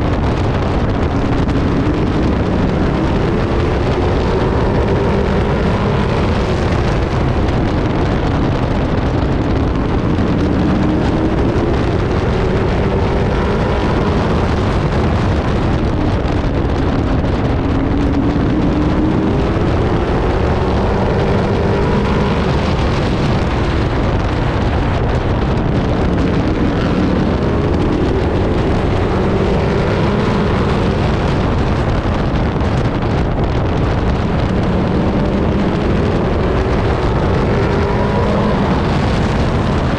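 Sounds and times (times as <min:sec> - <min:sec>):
truck engine racing: 0:00.0 - 0:39.9
wind noise: 0:00.0 - 0:39.9.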